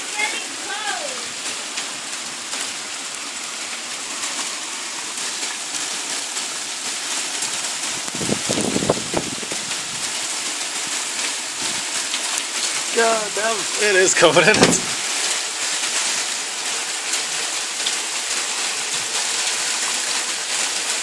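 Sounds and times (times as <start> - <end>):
hail falling on pavement: 0.0 - 21.0.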